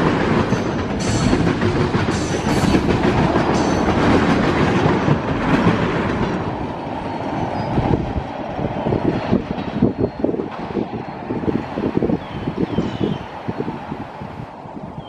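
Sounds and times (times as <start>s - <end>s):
train rolling past: 0.0s - 15.0s.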